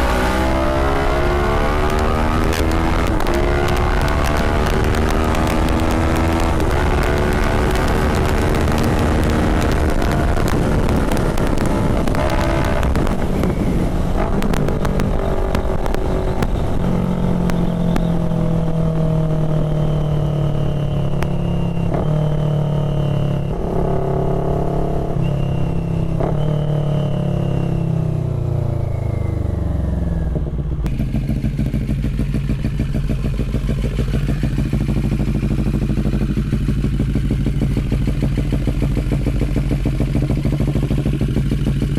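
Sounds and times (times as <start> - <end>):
motorcycle engine: 0.0 - 41.9.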